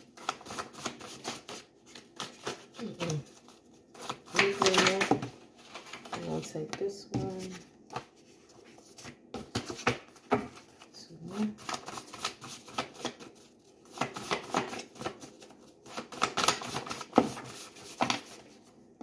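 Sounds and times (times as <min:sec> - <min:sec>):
cards being shuffled by hand: 0:00.1 - 0:10.9, 0:11.6 - 0:18.7.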